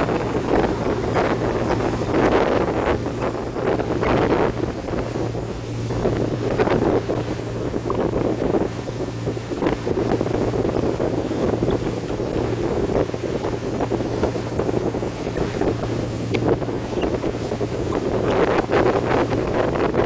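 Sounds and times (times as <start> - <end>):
low engine hum: 0.0 - 20.0
water rushing along hull: 0.0 - 20.0
wind buffeting microphone: 0.0 - 20.0.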